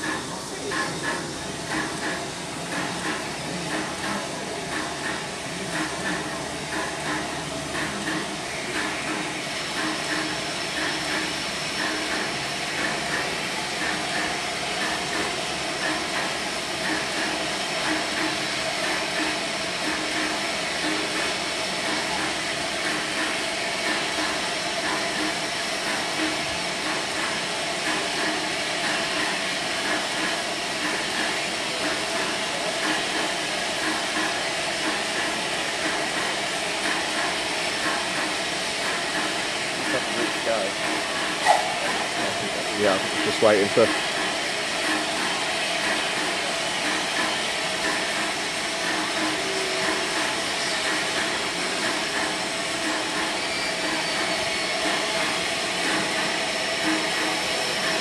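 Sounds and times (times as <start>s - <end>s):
steam hissing from locomotives: 0.0s - 58.0s.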